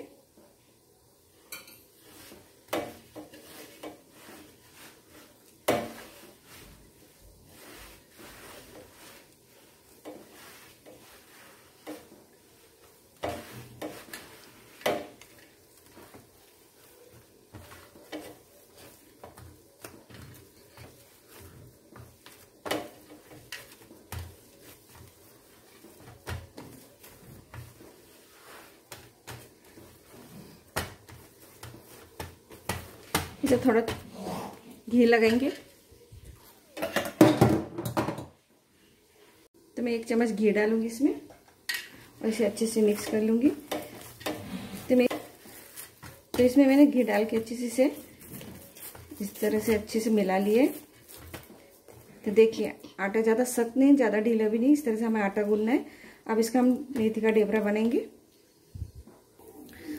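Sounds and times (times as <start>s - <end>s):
dough squelching: 1.8s - 36.8s, 39.8s - 59.9s.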